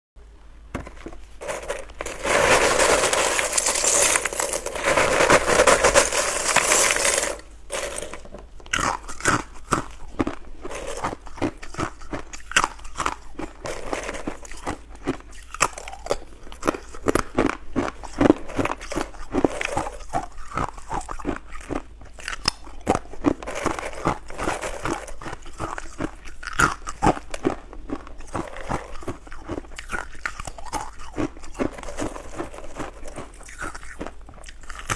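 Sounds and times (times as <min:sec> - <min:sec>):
ice clattering: 0:00.8 - 0:21.8, 0:22.6 - 0:34.9
ice being chewed: 0:00.8 - 0:34.9.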